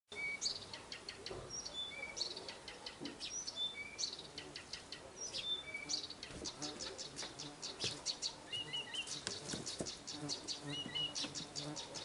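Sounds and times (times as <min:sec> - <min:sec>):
songbird singing: 0:00.1 - 0:12.0.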